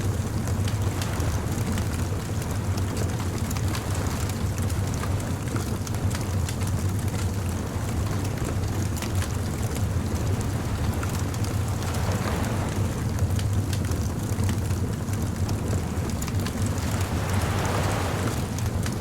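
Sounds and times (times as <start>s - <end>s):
low fire rumble: 0.0s - 19.0s.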